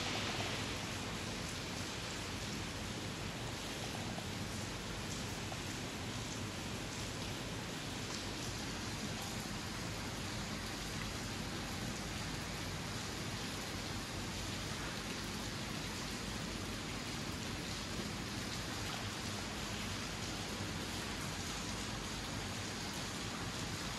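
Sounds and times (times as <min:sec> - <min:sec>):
heavy rain on rooftops: 0:00.0 - 0:23.9.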